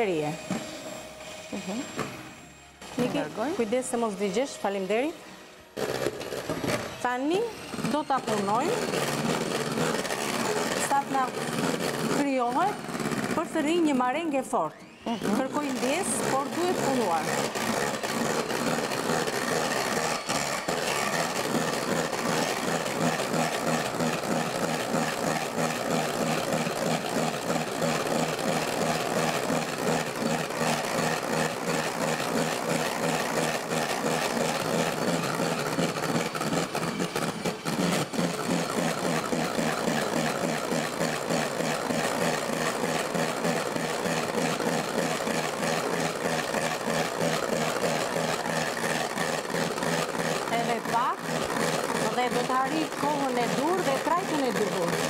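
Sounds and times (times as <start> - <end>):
electric hand mixer running: 0.0 - 55.0.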